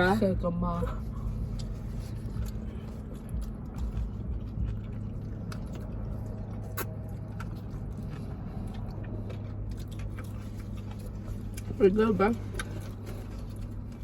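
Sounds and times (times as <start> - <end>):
steady low hum: 0.0 - 14.0
people chewing and biting: 1.0 - 14.0.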